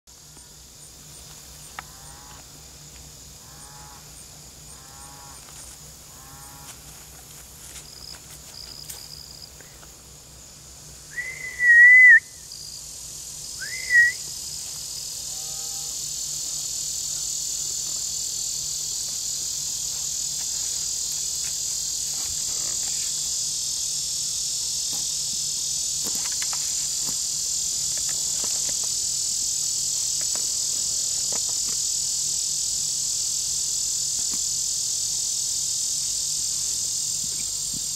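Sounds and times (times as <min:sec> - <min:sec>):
crickets chirping: 0:00.1 - 0:37.9.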